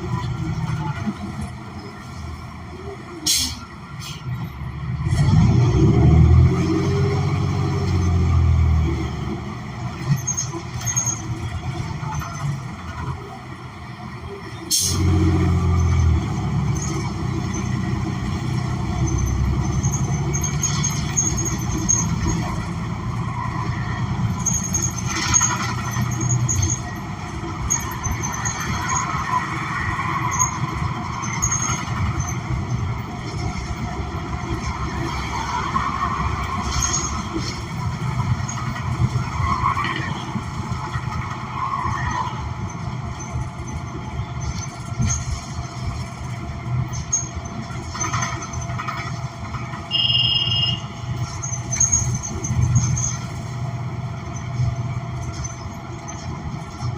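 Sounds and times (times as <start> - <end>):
bus engine running: 0.0 - 41.6, 42.2 - 56.9.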